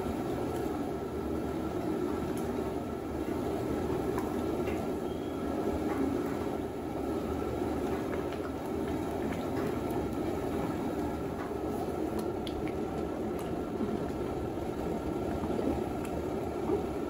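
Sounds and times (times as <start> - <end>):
curry simmering and bubbling in pot: 0.0 - 17.0.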